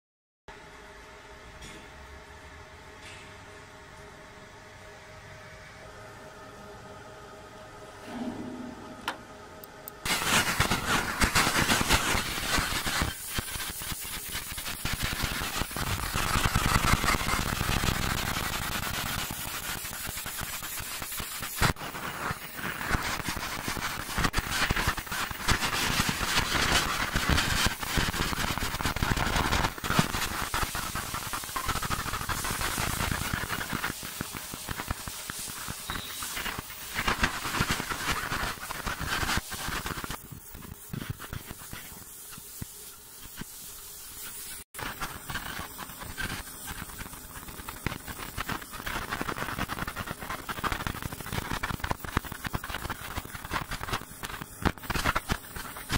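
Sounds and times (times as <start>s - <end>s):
laser cutting crackling hiss: 10.0s - 55.9s.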